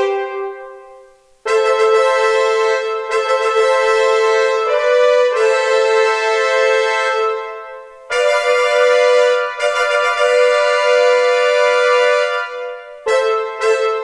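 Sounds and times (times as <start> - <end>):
trumpets playing sustained notes: 0.0 - 14.0.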